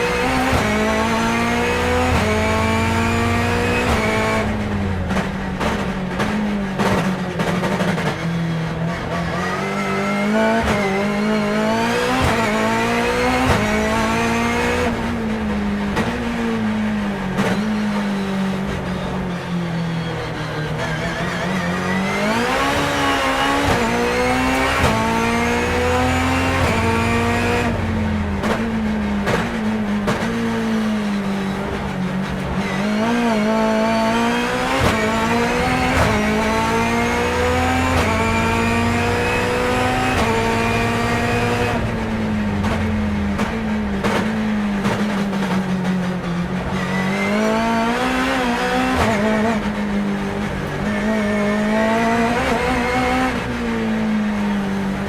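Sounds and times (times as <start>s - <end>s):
car braking with downshifts: 0.0s - 55.0s
race car engine at full throttle: 0.0s - 55.0s.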